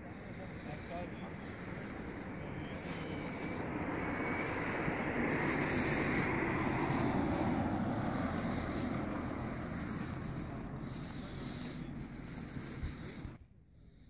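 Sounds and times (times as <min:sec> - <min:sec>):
car passing: 0:00.0 - 0:13.4.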